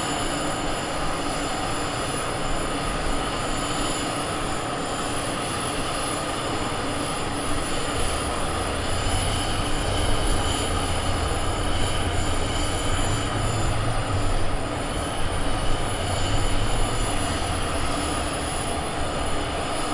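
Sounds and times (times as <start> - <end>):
high-pitched machinery whine: 0.0 - 19.9.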